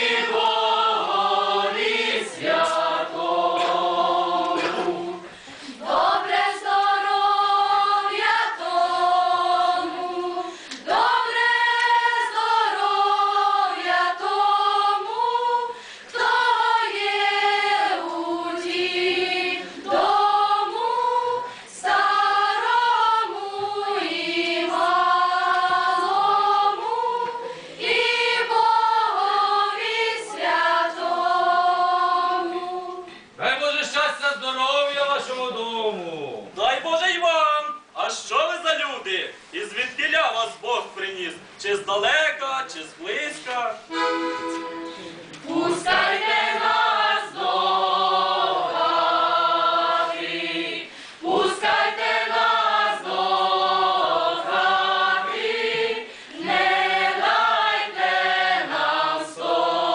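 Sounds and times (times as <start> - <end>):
choir singing unaccompanied: 0.0 - 33.1, 43.9 - 59.9.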